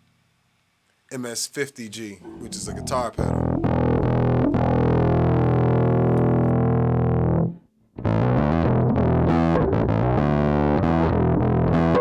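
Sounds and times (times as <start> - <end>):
distorted electric bass: 2.4 - 12.0.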